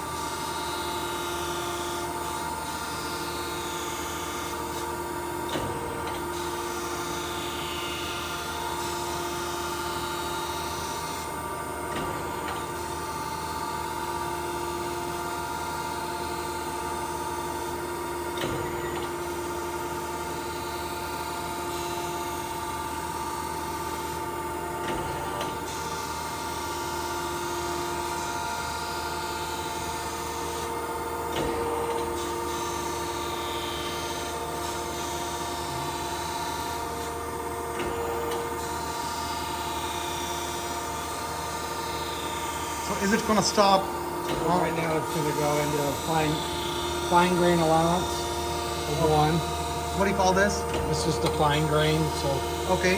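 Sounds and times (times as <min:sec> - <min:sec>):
grinder hum and whine: 0:00.0 - 0:52.9.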